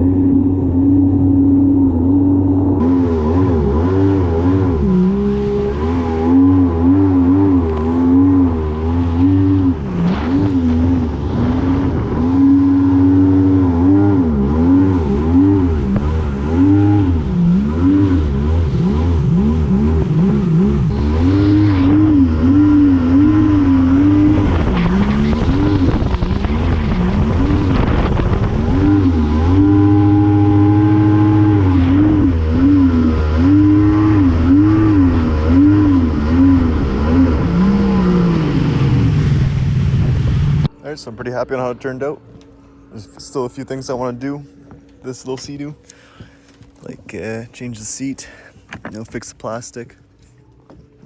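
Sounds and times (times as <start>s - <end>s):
jet ski engine running: 0.0s - 51.0s.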